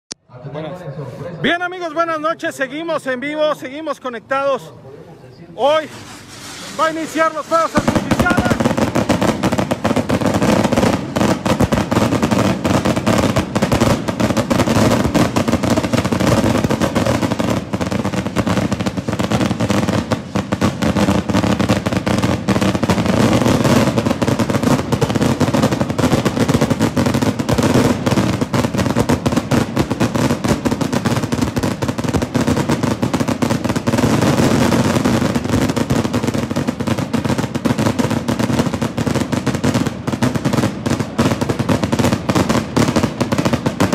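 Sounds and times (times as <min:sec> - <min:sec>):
fireworks bangs and crackling: 0:05.6 - 0:43.9.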